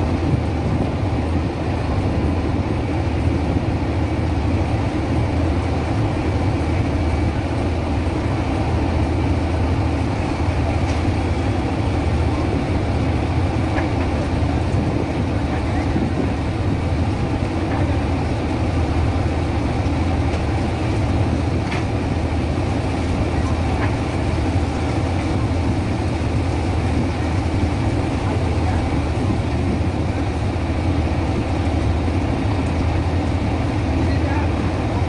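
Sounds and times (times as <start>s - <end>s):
boat engine rumbling: 0.0s - 35.0s.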